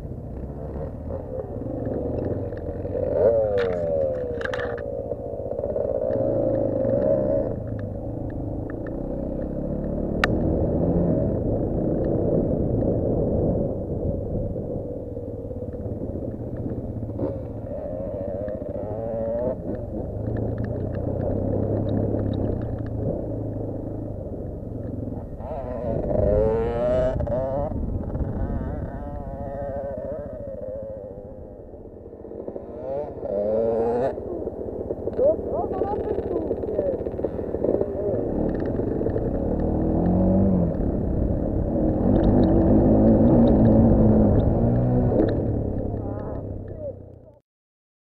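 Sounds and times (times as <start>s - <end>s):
off-road motorcycle engine revving: 0.0s - 47.4s.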